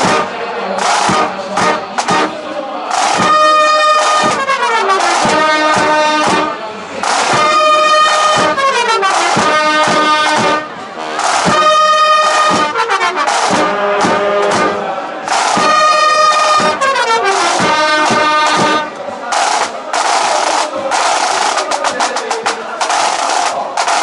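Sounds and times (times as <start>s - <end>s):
marching brass band playing: 0.0s - 24.0s.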